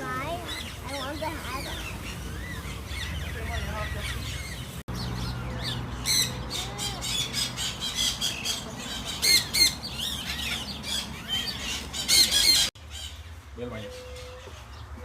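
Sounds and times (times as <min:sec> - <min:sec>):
parrots squawking: 0:00.2 - 0:13.2.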